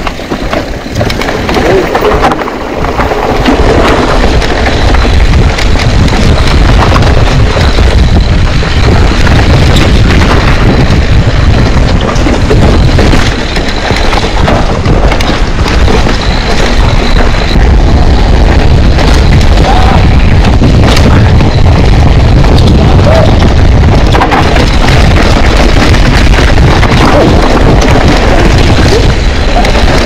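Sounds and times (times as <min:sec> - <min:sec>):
bike rattling over bumps: 0:00.0 - 0:30.0
tyres rumbling on trail: 0:00.0 - 0:30.0
wind buffeting microphone: 0:00.0 - 0:30.0.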